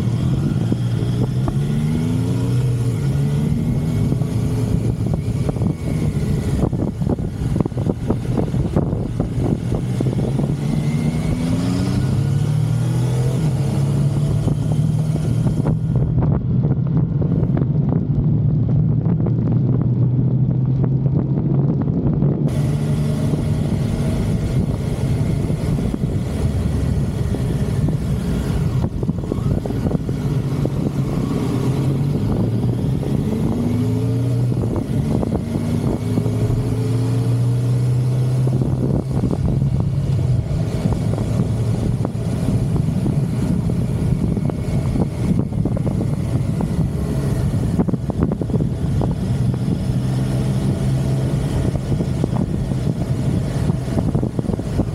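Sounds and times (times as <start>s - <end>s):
motorcycle engine running: 0.0s - 54.9s
wind rush: 0.0s - 54.9s.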